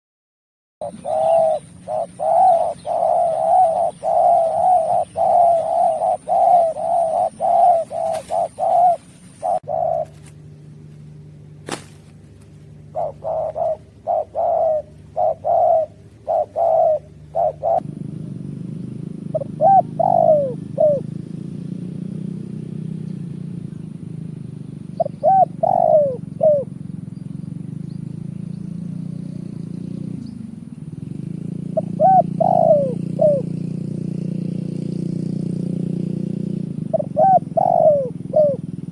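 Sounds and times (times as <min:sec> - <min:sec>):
dove cooing: 0:00.8 - 0:10.4, 0:12.7 - 0:38.9
steady low hum: 0:00.8 - 0:38.9.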